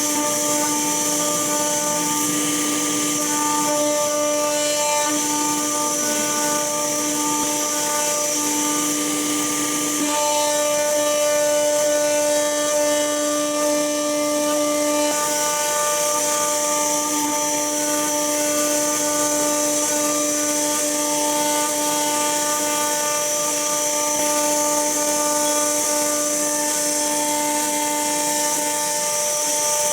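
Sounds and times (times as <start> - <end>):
router spindle whine milling metal: 0.0 - 29.9.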